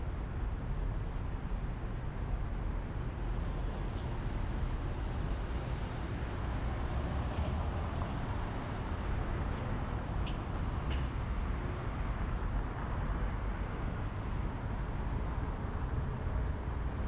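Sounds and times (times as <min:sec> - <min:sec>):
street traffic rumble: 0:00.1 - 0:17.0.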